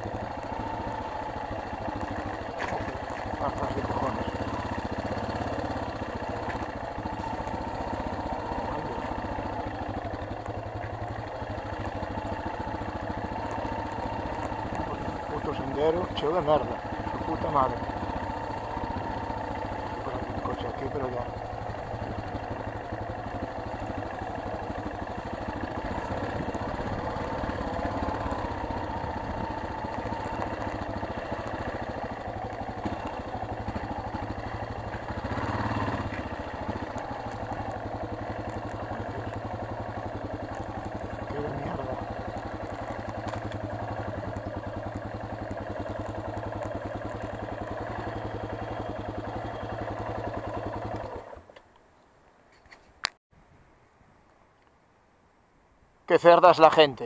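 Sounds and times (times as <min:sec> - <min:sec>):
motorcycle engine running: 0:00.0 - 0:51.6.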